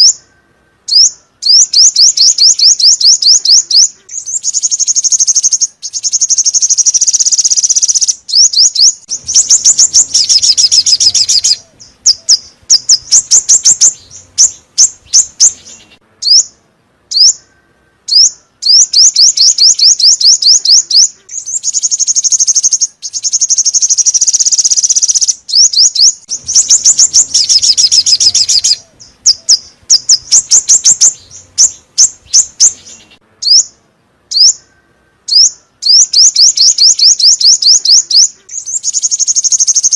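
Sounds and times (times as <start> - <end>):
songbird fast high chirping: 0.0 - 39.9.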